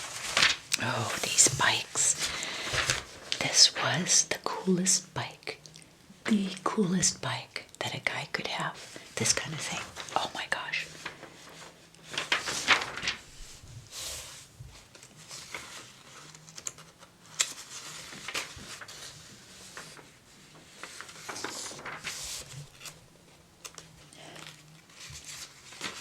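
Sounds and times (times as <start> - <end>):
paper pages rustling: 0.0 - 4.3, 8.8 - 26.0.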